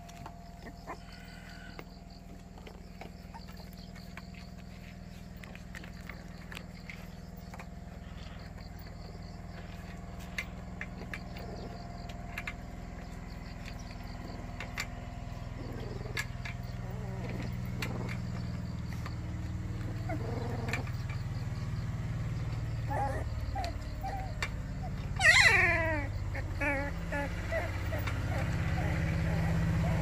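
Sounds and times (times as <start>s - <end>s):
puppies whimpering: 0.0s - 21.3s, 22.2s - 30.0s.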